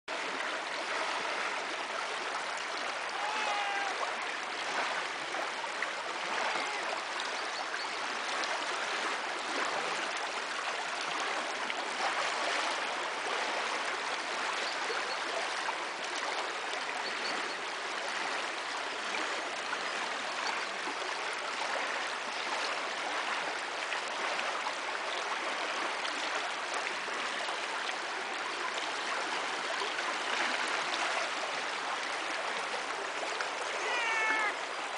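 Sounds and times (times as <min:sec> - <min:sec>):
river water babbling over stones: 0:00.1 - 0:34.9.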